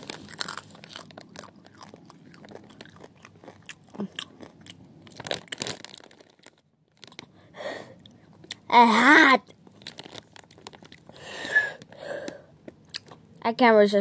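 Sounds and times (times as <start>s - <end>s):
person crunching chips: 0.0s - 13.2s.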